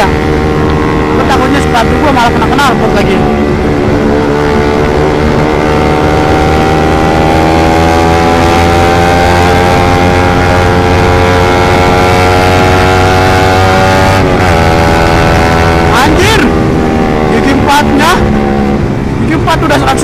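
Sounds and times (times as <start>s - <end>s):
motorcycle engine accelerating: 0.0s - 20.0s
wind noise: 0.0s - 20.0s.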